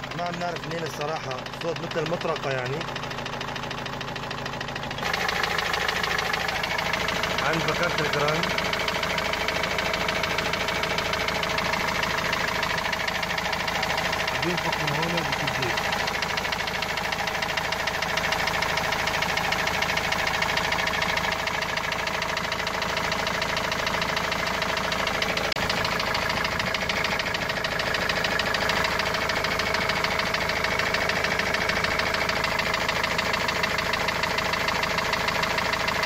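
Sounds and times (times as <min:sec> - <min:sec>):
diesel engine idling: 0:00.0 - 0:36.0
rapid engine knocking: 0:00.0 - 0:36.0.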